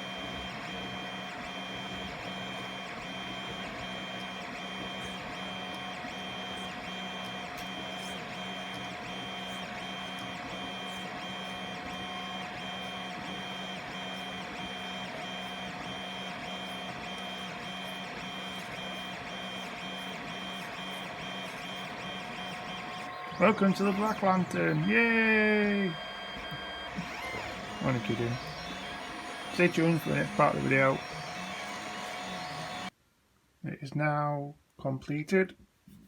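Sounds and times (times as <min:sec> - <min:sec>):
stepper motors whining: 0:00.0 - 0:32.9.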